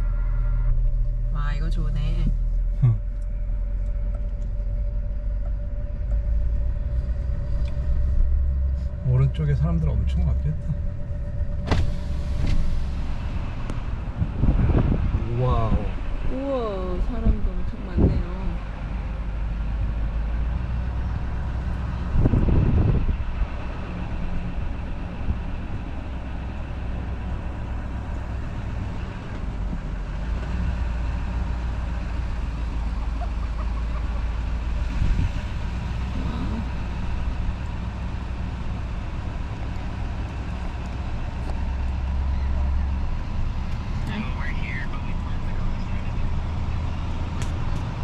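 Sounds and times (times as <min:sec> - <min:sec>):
truck engine and road rumble: 0:00.0 - 0:48.0.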